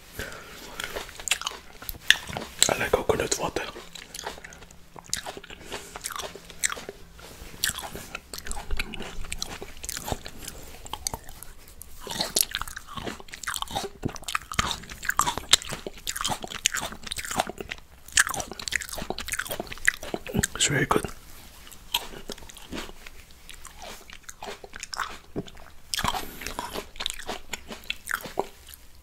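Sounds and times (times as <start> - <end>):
grapes being chewed: 0.0 - 29.0.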